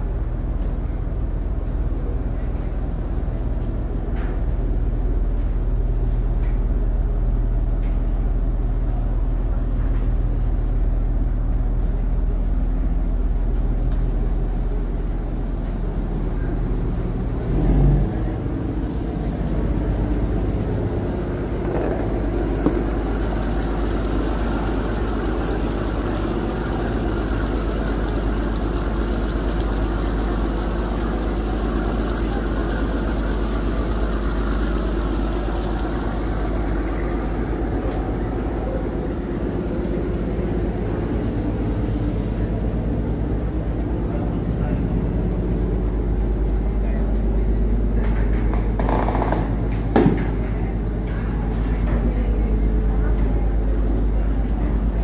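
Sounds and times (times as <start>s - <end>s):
boat engine droning: 0.0s - 55.0s
engine rumble: 0.0s - 55.0s.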